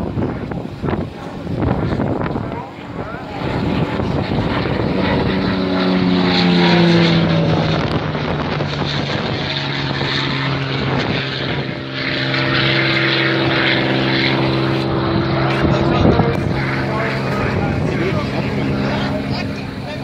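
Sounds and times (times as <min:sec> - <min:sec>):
propeller aircraft engine drone: 0:00.0 - 0:20.0.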